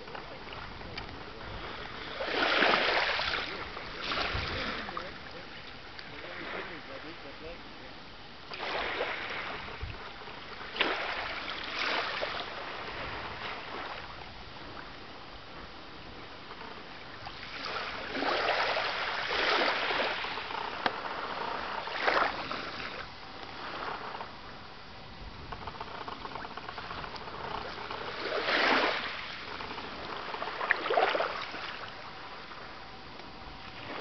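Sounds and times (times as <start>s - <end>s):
small waves lapping on sand: 0.0s - 34.0s.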